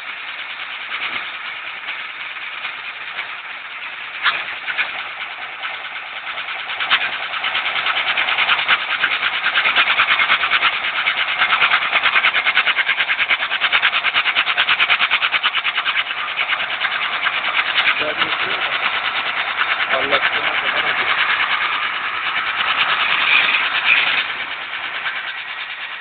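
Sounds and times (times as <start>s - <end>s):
wheel repair machine pulsing: 0.0s - 26.0s.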